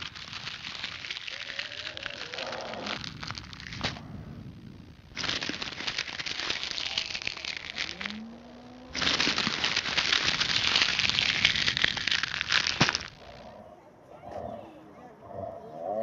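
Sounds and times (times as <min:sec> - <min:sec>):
crackling rustle of leaves: 0:00.0 - 0:13.5.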